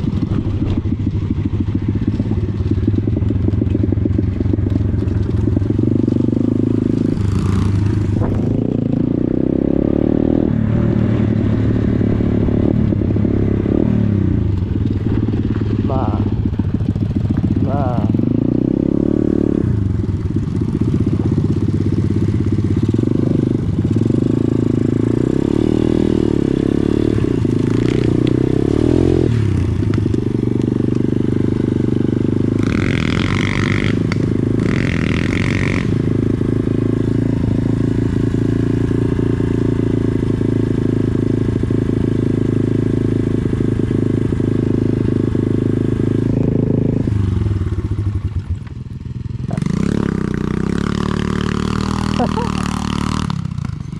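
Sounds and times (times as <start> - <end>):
small motorcycle engine running: 0.0 - 53.9.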